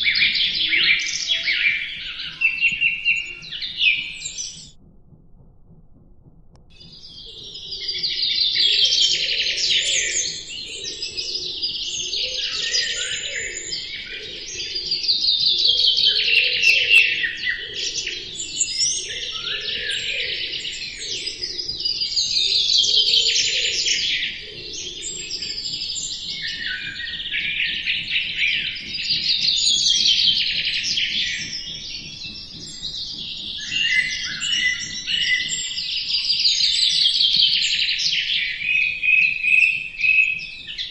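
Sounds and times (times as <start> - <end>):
small birds chirping and trilling: 0.0 - 4.8, 6.7 - 40.9.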